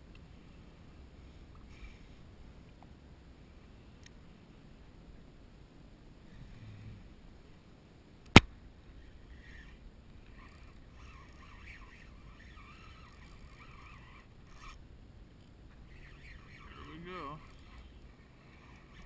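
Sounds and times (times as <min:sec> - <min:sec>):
faint wind: 0:00.0 - 0:19.0.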